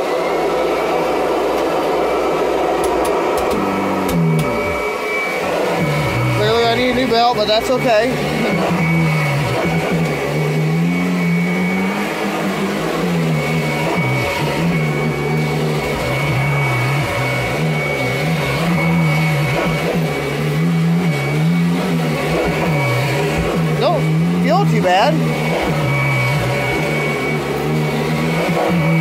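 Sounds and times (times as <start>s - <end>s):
steady high whine: 0.0s - 29.0s
vacuum cleaner running on carpet: 0.0s - 29.0s.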